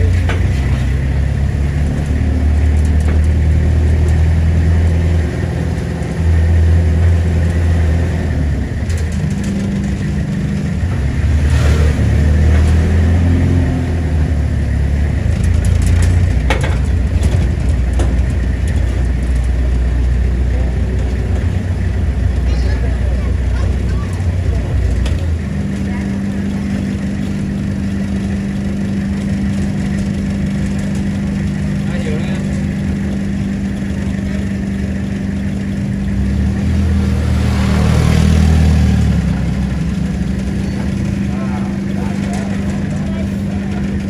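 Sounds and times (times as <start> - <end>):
road noise: 0.0 - 44.0
vehicle engine droning: 0.0 - 44.0.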